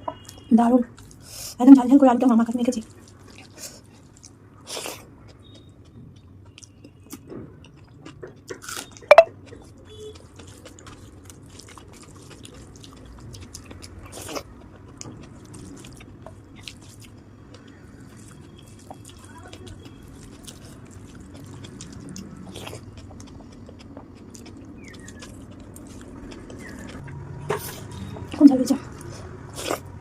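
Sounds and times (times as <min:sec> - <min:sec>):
wet chewing and lip smacks: 0:02.8 - 0:30.0.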